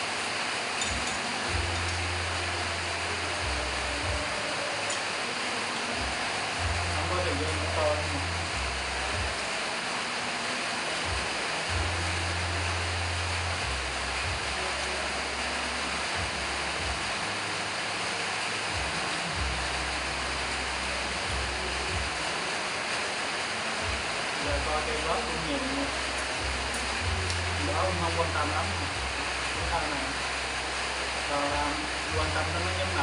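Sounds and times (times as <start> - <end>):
loud background hiss: 0.0 - 33.0.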